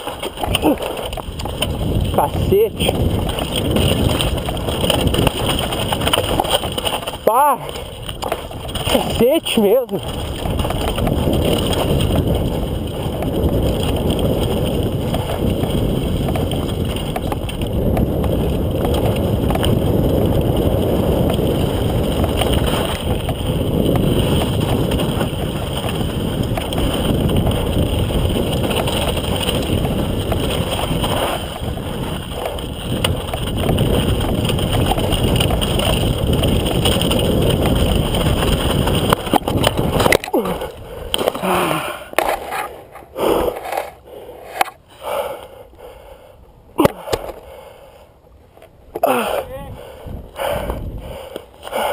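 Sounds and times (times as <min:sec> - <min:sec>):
wind noise on microphone: 0:00.0 - 0:45.4, 0:48.7 - 0:51.9
bike rattling on dirt trail: 0:00.0 - 0:51.9.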